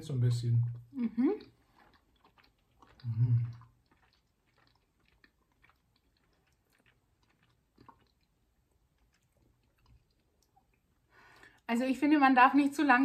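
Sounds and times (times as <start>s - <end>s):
chewing mouth clicks and smacks: 0.6s - 11.6s.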